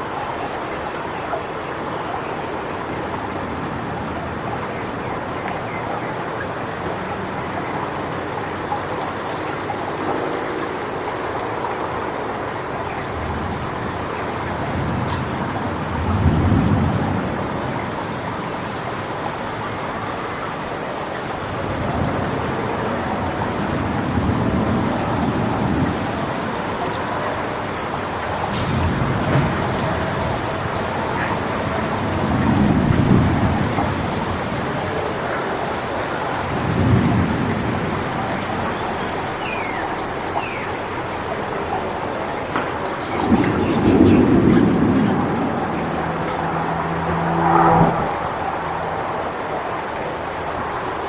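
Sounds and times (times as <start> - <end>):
wind rushing through palm fronds: 0.0 - 51.0.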